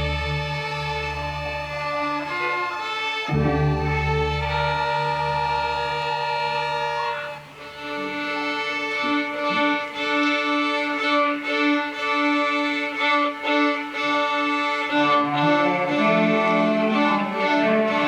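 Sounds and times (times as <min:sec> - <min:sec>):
string orchestra playing: 0:00.0 - 0:18.0.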